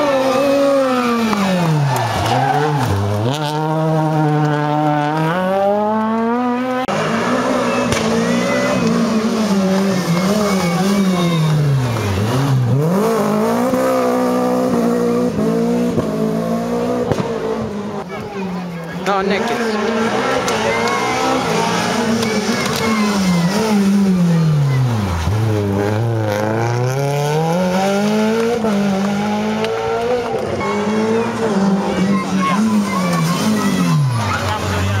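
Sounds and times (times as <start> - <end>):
rally car engines braking and accelerating: 0.0 - 35.0.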